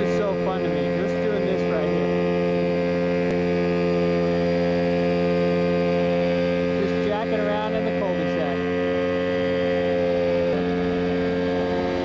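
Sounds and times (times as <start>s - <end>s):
helicopter engine and rotor hum: 0.0s - 12.0s.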